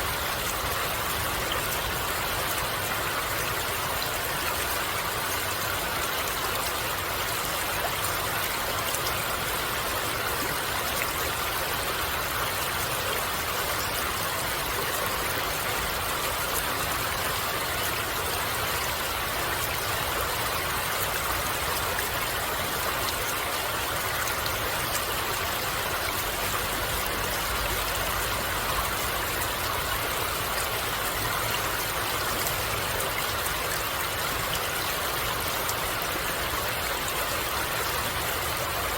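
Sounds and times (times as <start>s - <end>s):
water flowing in a stream: 0.0s - 38.9s.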